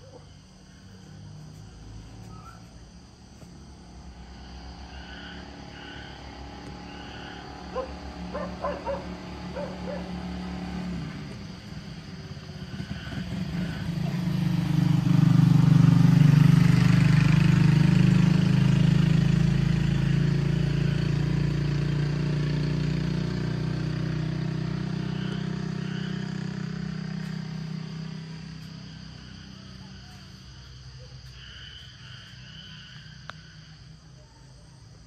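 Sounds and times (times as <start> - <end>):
vehicle engine passing by: 0.0 - 35.0.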